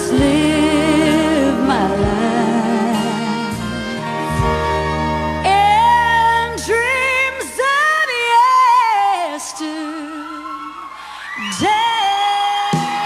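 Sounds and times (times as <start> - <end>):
woman singing with vibrato: 0.0 - 4.4, 5.4 - 13.0.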